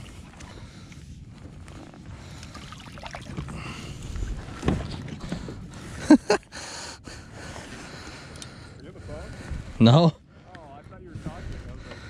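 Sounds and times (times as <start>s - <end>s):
water lapping against kayak hull: 0.0s - 10.5s, 11.1s - 12.0s.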